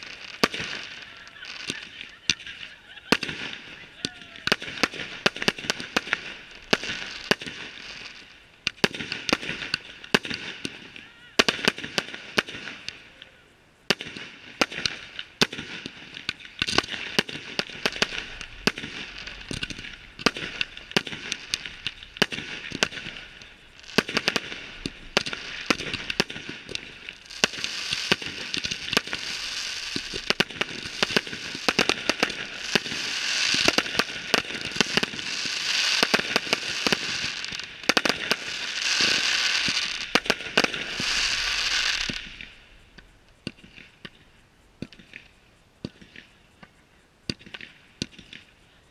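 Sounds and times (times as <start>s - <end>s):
firework shells bursting: 0.0s - 48.7s
firework crackling and hissing: 0.0s - 48.9s.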